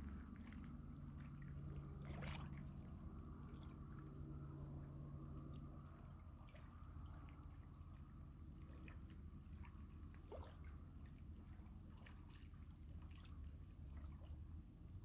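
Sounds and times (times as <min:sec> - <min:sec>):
low steady rumble: 0:00.0 - 0:15.0
water lapping on rocks: 0:00.0 - 0:15.0.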